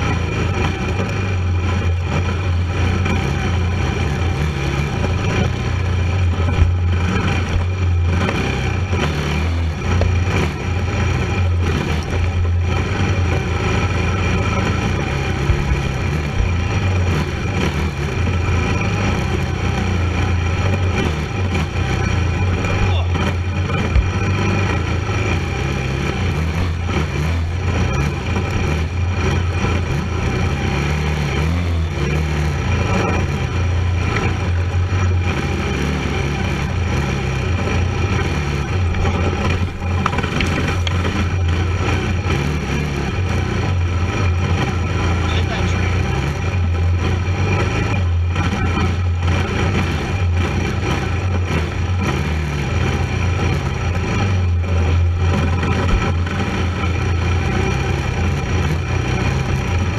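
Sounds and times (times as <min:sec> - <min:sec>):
quad engine under throttle: 0:00.0 - 0:59.9.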